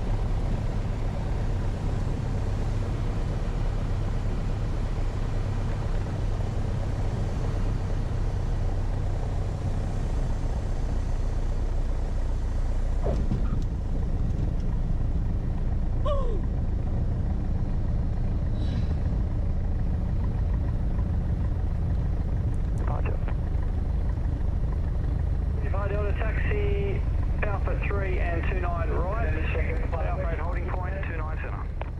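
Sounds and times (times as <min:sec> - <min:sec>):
aircraft engine and propeller humming: 0:00.0 - 0:31.9.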